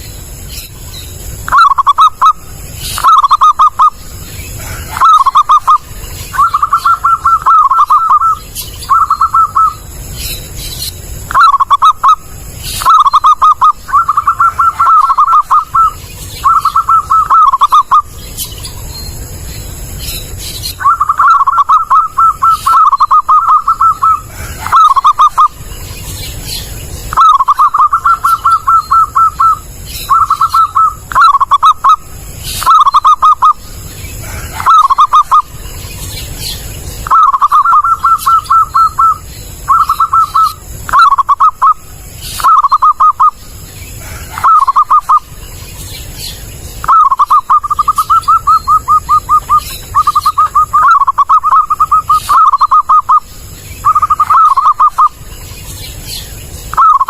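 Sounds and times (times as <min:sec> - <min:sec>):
dove cooing: 0:01.5 - 0:10.0, 0:11.3 - 0:18.1, 0:20.7 - 0:35.6, 0:37.0 - 0:45.4, 0:46.8 - 0:55.2, 0:56.7 - 0:57.0.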